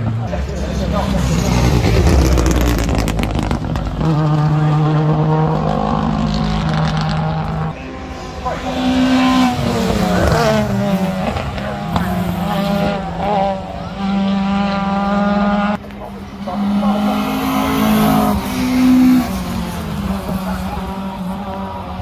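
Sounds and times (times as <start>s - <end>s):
rally cars racing past: 0.0s - 22.0s.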